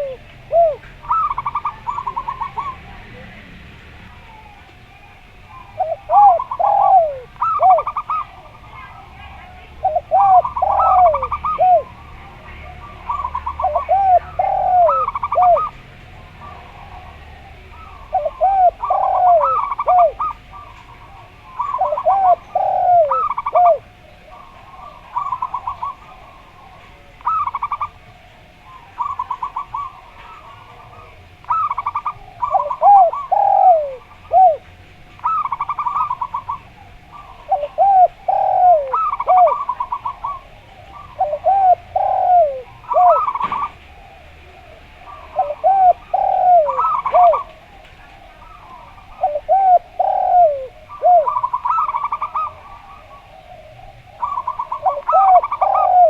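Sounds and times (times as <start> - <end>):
dove low falling coos: 0.0 - 56.0
dove staccato cooing: 0.0 - 56.0.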